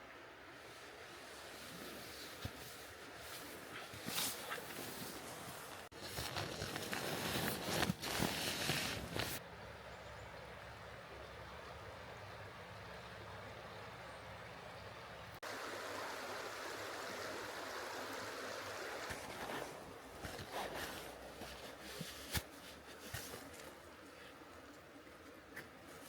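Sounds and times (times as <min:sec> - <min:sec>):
mountain stream flowing: 0:00.0 - 0:26.0.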